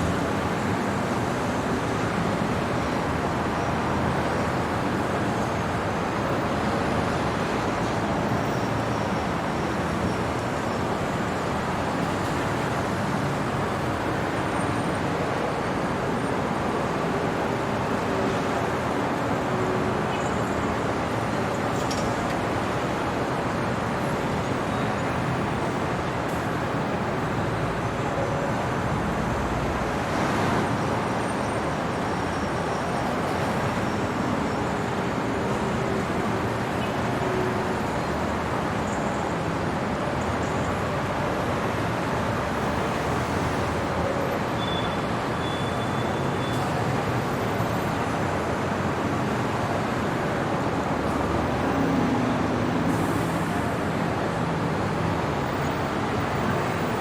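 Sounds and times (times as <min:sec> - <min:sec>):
city traffic hum: 0:00.0 - 0:57.0.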